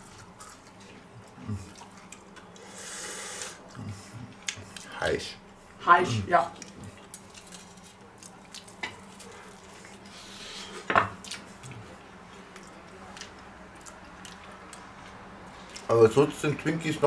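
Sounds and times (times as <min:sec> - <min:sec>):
people chewing: 0:00.0 - 0:05.8, 0:06.4 - 0:16.4.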